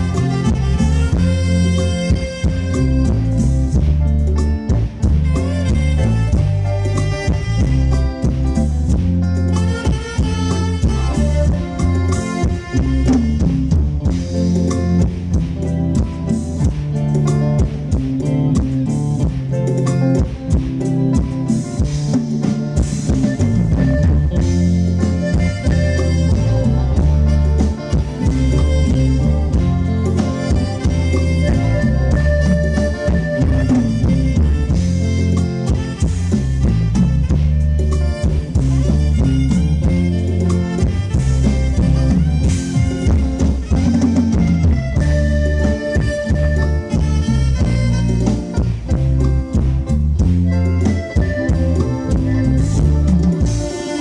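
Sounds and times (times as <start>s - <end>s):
bass guitar: 0.0s - 54.0s
drum kit beat: 0.0s - 54.0s
electric guitar: 0.0s - 54.0s
reedy keyboard melody: 0.0s - 54.0s.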